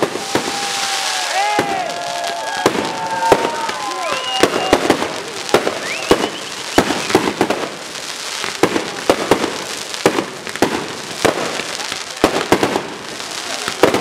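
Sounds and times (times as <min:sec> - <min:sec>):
fireworks bangs: 0:00.0 - 0:14.0
hissing crackle: 0:00.0 - 0:14.0
rising fireworks whistles: 0:00.0 - 0:14.0.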